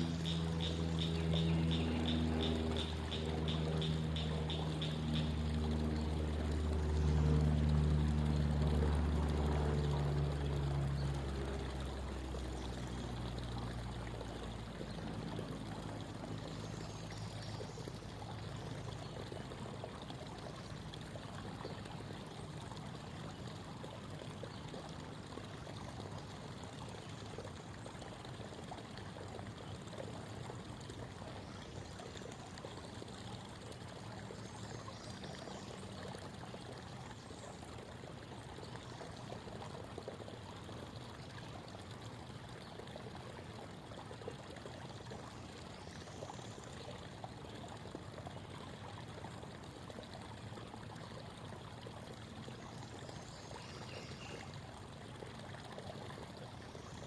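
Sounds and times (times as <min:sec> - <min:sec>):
creek water babbling: 0:00.0 - 0:57.0
low engine hum: 0:00.0 - 0:57.0.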